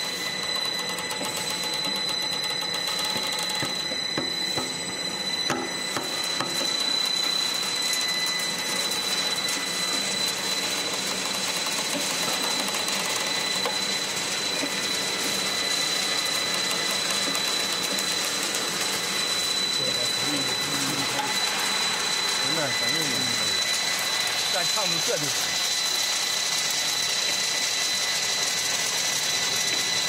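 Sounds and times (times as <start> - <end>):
high-pitched machine whine: 0.0 - 30.0.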